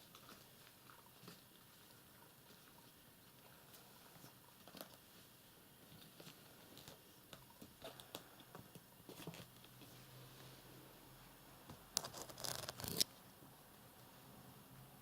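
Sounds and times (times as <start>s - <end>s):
kittens rustling and ticking: 0.0s - 13.2s.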